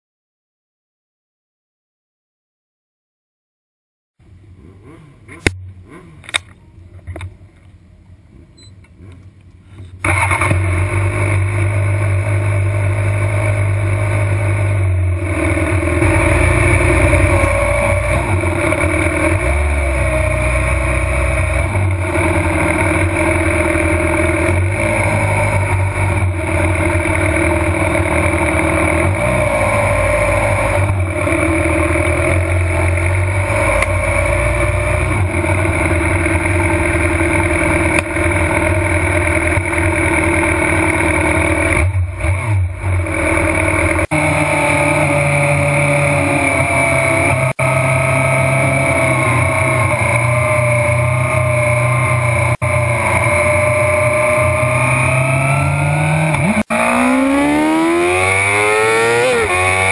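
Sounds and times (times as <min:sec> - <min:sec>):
motorcycle engine at low revs: 0:04.3 - 0:07.4, 0:08.6 - 0:59.9.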